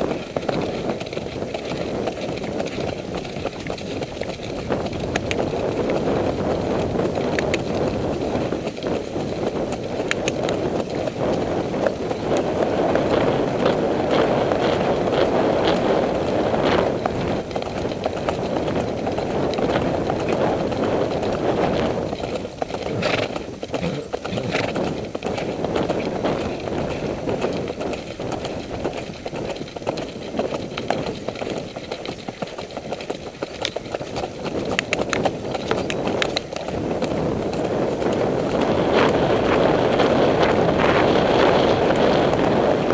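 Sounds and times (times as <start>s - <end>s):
horse hoofbeats on dirt: 0.0s - 42.9s
steady rushing noise: 0.0s - 42.9s.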